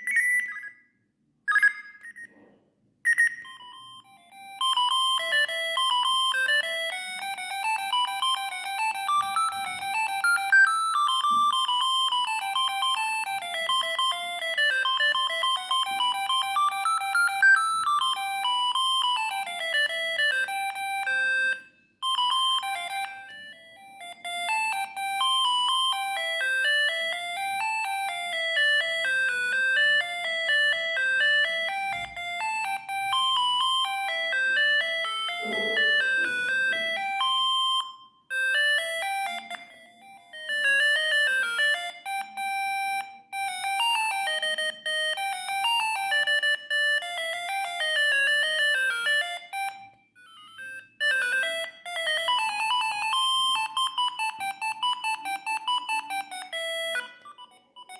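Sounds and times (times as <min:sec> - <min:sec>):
electronic phone ringtone: 0:00.0 - 0:57.9.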